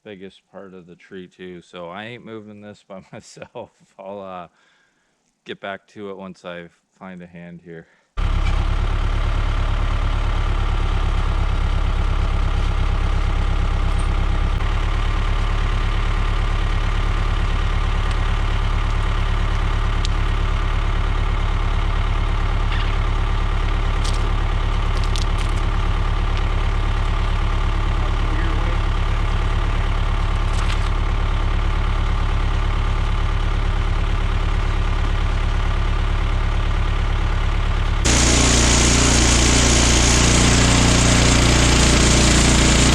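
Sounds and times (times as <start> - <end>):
sawmill gas engine running: 8.2 - 42.9.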